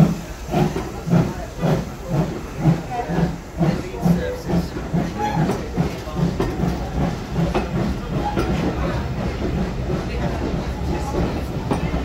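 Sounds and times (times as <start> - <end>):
train rumble: 0.0 - 12.0
train wheels knocking over rail joints: 0.0 - 12.0.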